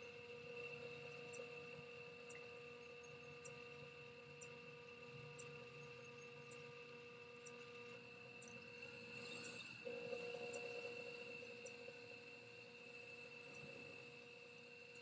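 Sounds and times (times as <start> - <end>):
pottery wheel motor whine: 0.0 - 15.0.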